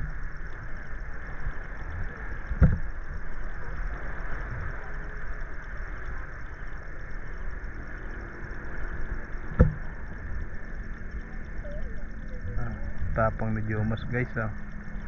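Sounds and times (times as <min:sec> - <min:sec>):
shallow sea water rumbling: 0:00.0 - 0:15.0.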